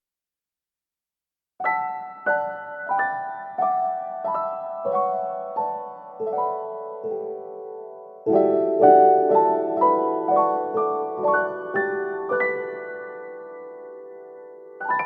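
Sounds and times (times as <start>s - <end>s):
gentle piano melody: 1.6s - 15.0s.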